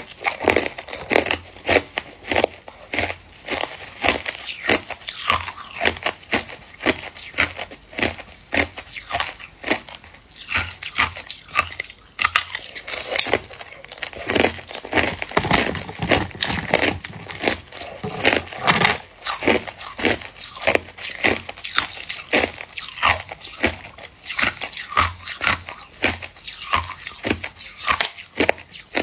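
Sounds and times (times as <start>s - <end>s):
ice crunching while chewed: 0.0s - 29.0s.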